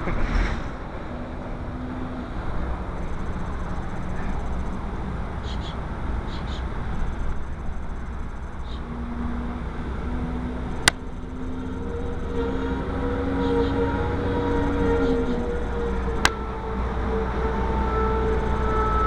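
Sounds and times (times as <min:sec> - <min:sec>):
car cabin road noise: 0:00.0 - 0:19.0
low steady hum: 0:00.0 - 0:19.0.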